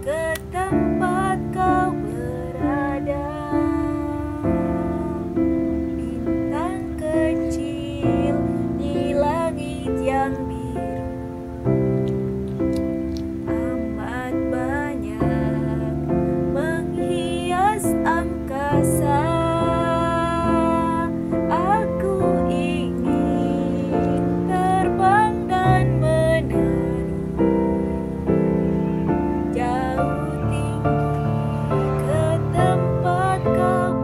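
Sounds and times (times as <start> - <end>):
sustained piano chords: 0.0 - 34.0
wordless high melody: 0.0 - 34.0.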